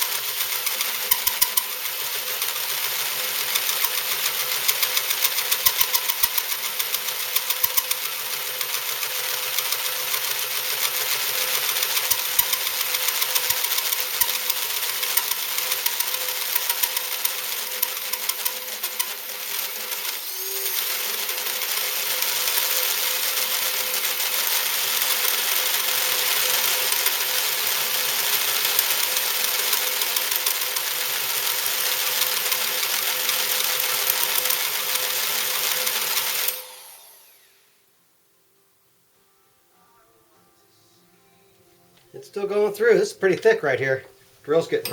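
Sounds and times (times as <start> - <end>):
drill with hole saw cutting iron: 0.0 - 37.8.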